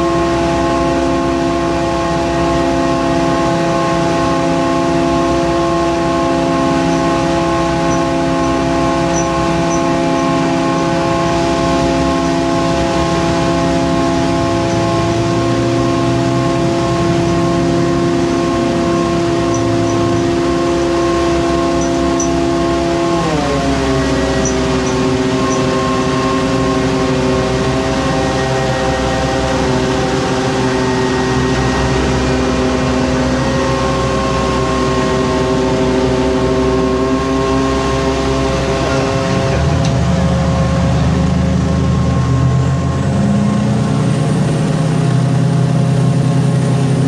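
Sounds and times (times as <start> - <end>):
boat engine running at low revs: 0.0 - 47.0
deep drone: 0.0 - 47.0.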